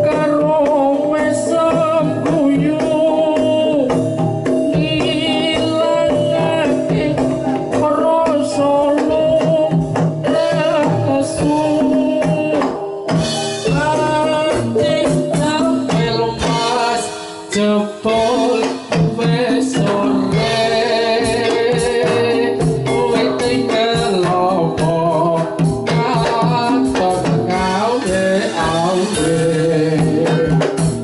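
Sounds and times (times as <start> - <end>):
hand drum played with palms: 0.0 - 31.0
person singing: 0.0 - 31.0.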